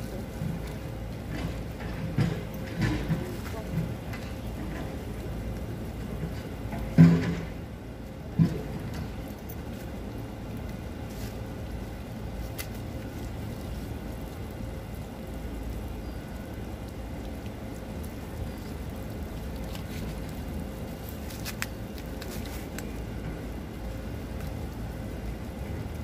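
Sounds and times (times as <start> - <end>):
distant road traffic rumble: 0.0 - 26.0.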